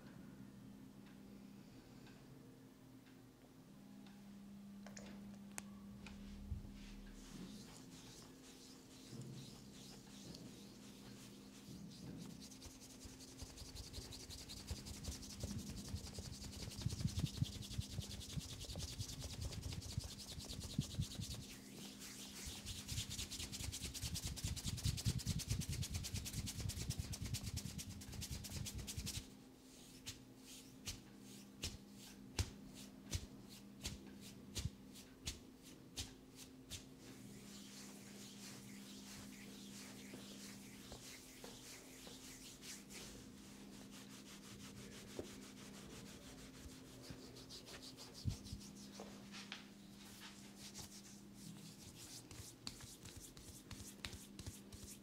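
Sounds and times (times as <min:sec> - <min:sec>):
fingertips rubbing skin: 0:07.2 - 0:49.1, 0:50.3 - 0:55.0.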